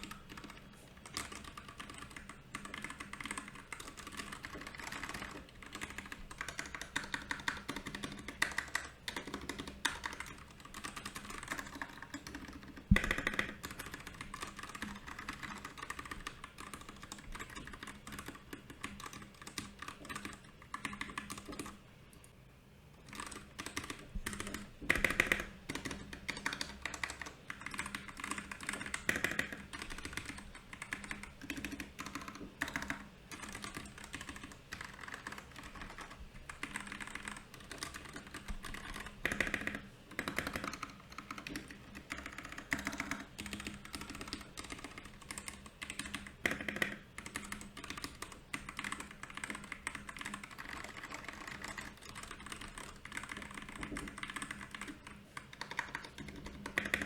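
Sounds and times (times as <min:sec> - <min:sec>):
mechanical keyboard typing: 0:00.0 - 0:22.3, 0:23.1 - 0:57.0.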